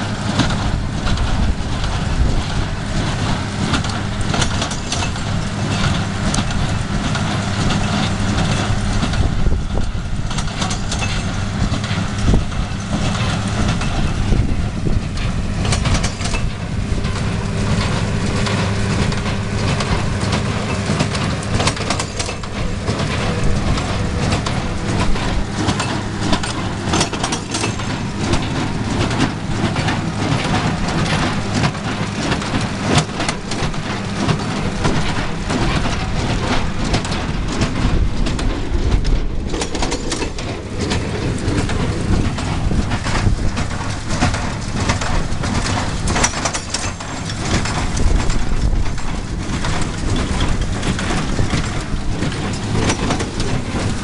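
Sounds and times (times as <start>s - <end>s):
baler clattering: 0.0s - 54.0s
tractor engine running: 0.0s - 54.0s.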